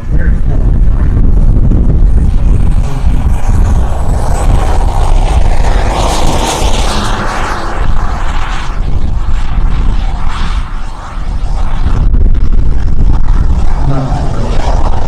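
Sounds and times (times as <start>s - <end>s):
model jet turbine rushing: 0.0s - 15.0s
wind buffeting microphone: 0.0s - 15.0s.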